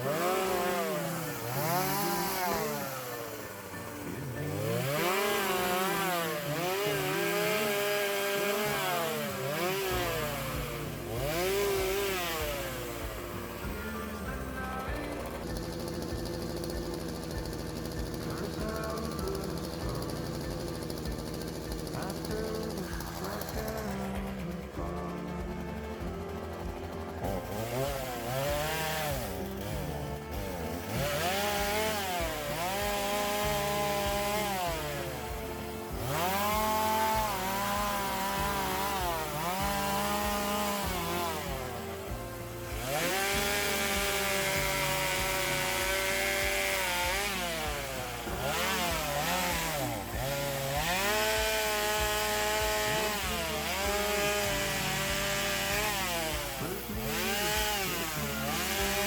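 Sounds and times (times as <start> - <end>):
held bass notes: 0.0 - 59.0
sliding lead melody: 0.0 - 59.0.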